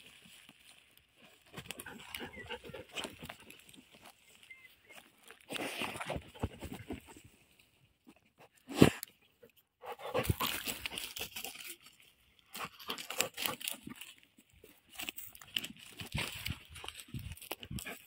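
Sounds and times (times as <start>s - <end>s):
dog digging in dry earth: 0.0s - 18.0s.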